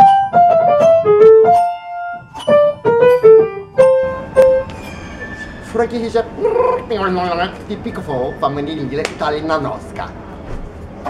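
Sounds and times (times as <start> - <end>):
keyboard melody: 0.0 - 8.9.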